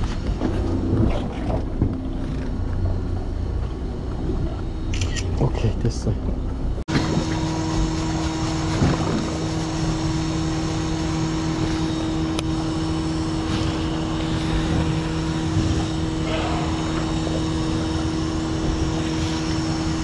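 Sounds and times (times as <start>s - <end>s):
boat engine droning: 0.0s - 20.0s
water noise: 0.0s - 20.0s
wind: 0.0s - 20.0s.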